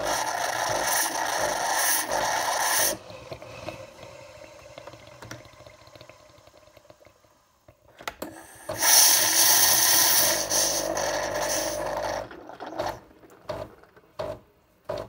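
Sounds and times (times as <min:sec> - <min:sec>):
coffee machine pump running: 0:00.0 - 0:07.2, 0:08.2 - 0:15.0.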